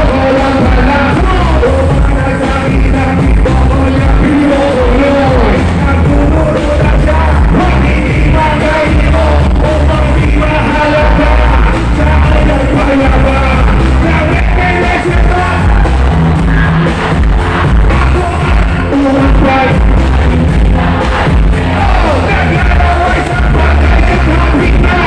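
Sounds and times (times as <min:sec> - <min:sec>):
man singing into a microphone: 0:00.0 - 0:16.7, 0:17.7 - 0:20.0, 0:21.5 - 0:25.0
backing track with heavy bass: 0:00.0 - 0:25.0.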